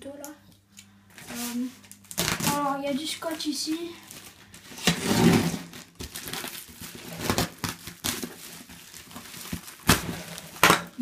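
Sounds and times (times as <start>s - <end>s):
plastic bag crinkling: 1.1s - 11.0s.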